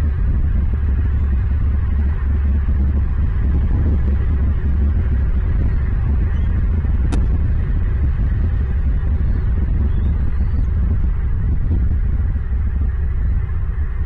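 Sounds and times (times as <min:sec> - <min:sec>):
loud low rumble: 0:00.0 - 0:14.0
noisy hiss: 0:00.0 - 0:14.0.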